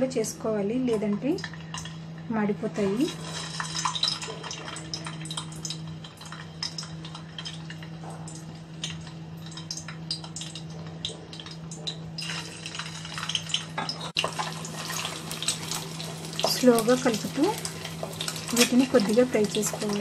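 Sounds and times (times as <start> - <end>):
steady low hum: 0.0 - 20.0
oil crackling and popping: 2.9 - 20.0.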